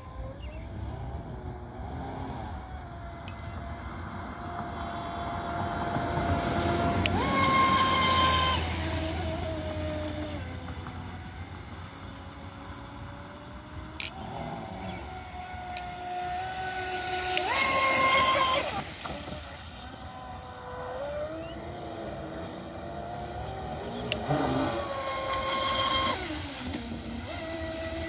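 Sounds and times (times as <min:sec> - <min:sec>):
model boat motor whining: 0:00.0 - 0:28.0.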